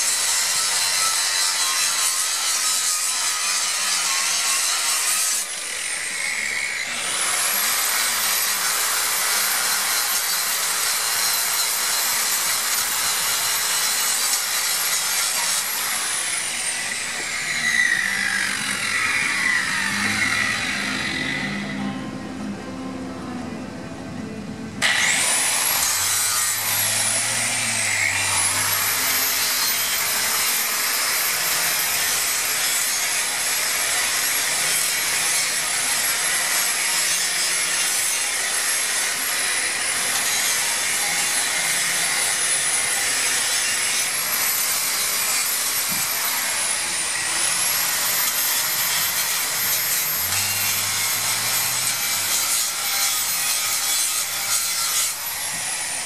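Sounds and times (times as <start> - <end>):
angle grinder grinding steel: 0.0 - 22.1, 24.8 - 56.0.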